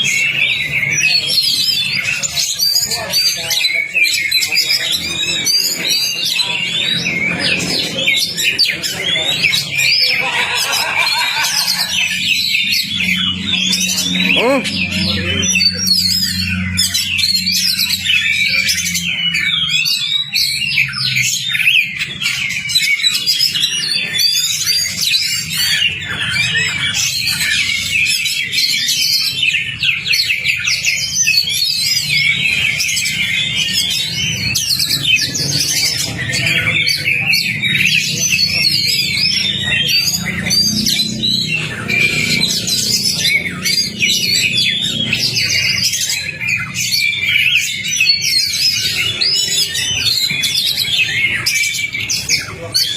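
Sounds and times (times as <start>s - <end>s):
bird singing: 0.0s - 52.9s.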